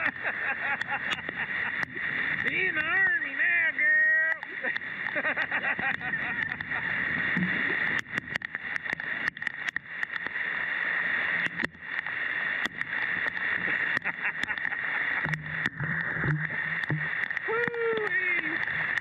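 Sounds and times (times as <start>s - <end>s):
heavy rain on lake: 0.0s - 19.0s
raindrops tapping near microphone: 0.0s - 19.0s.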